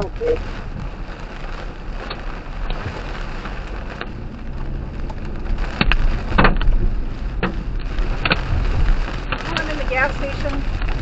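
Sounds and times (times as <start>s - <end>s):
hail clattering: 0.0s - 11.0s.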